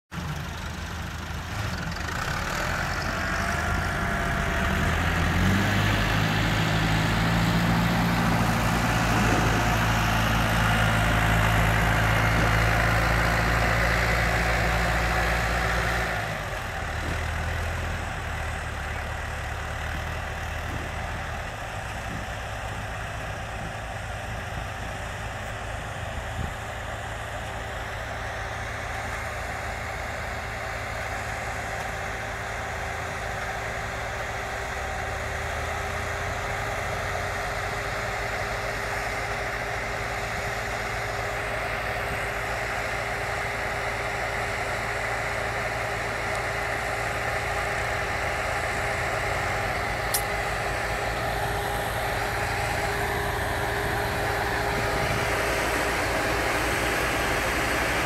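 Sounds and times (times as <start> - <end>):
diesel tractor engines working: 0.1 - 58.0.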